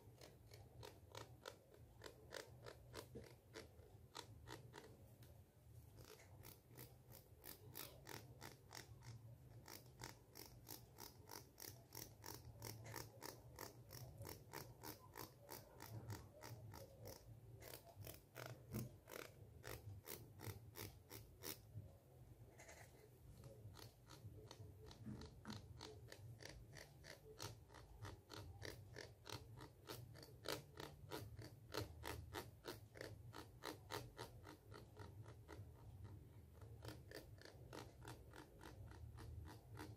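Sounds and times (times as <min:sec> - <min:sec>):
fingernail scratching comb teeth: 0:00.0 - 0:05.0, 0:05.9 - 0:21.9, 0:22.5 - 0:39.9.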